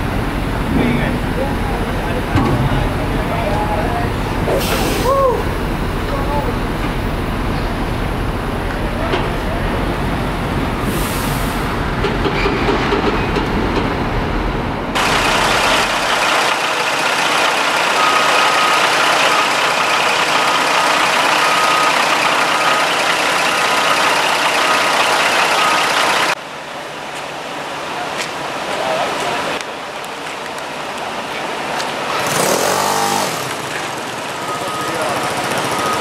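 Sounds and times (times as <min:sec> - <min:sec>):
heavy vehicle rumbling: 0:00.0 - 0:36.0.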